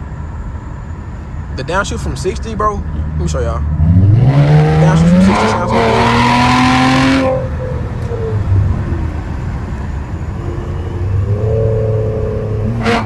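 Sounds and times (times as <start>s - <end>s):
car engine and loud exhaust: 0.0s - 13.0s.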